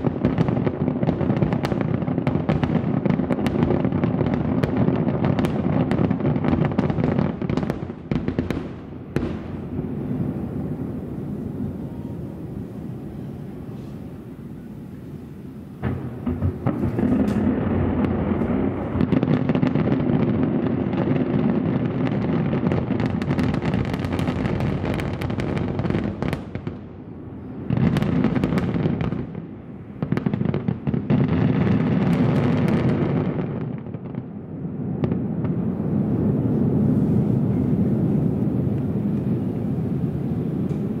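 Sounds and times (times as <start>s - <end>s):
fireworks crackling and booming: 0.0s - 41.0s.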